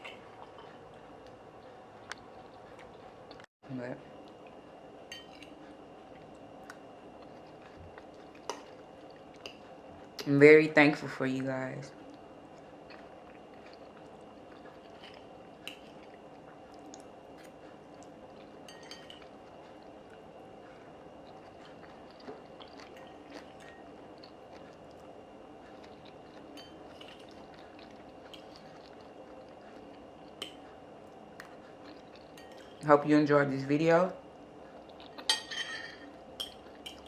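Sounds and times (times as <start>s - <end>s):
faint chewing: 0.0s - 3.5s, 4.2s - 10.3s, 11.9s - 32.8s, 34.4s - 35.4s
low room hum: 0.0s - 37.0s.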